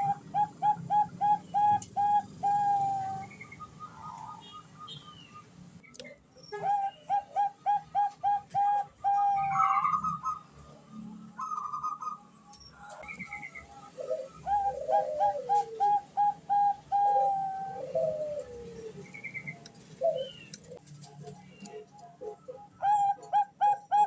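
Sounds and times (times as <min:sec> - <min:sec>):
dove cooing: 0:00.0 - 0:04.7, 0:06.6 - 0:10.5, 0:12.8 - 0:24.0.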